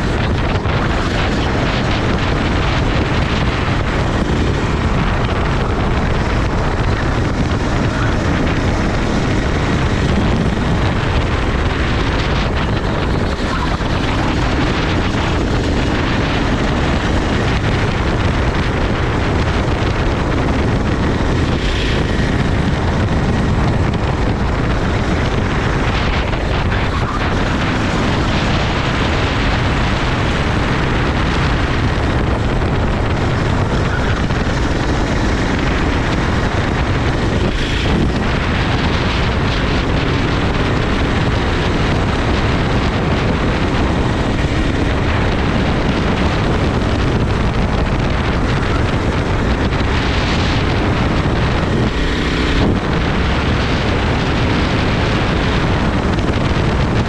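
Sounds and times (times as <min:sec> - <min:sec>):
kart engine running: 0:00.0 - 0:57.0
wind buffeting microphone: 0:00.0 - 0:57.0.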